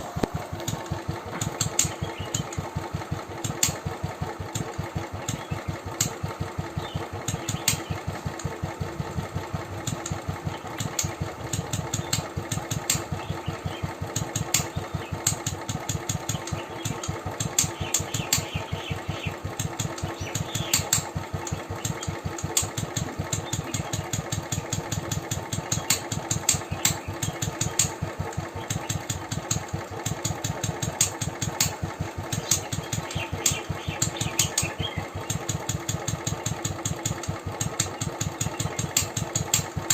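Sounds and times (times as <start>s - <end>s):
sharp ticks: 0.0s - 2.7s, 3.3s - 8.6s, 9.8s - 39.9s
motorcycle engine idling: 0.0s - 39.9s.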